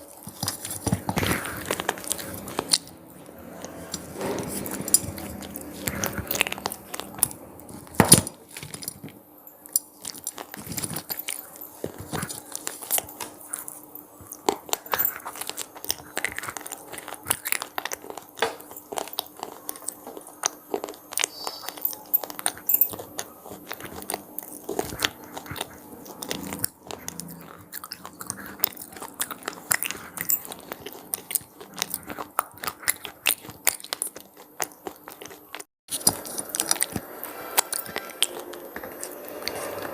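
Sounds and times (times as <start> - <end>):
crunching and chewing snacks: 0.0 - 39.9.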